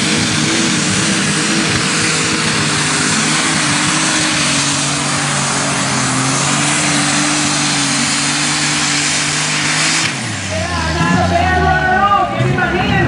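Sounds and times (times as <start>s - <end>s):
tractor engine roaring: 0.0s - 13.0s.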